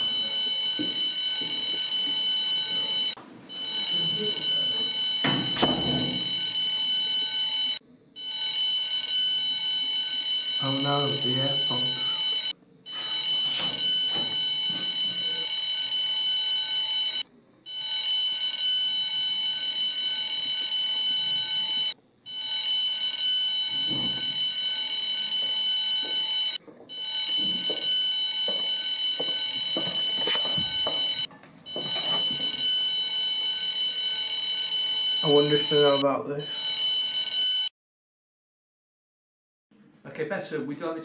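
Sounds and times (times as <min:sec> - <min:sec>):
fire alarm sounder tone: 0:00.0 - 0:37.7.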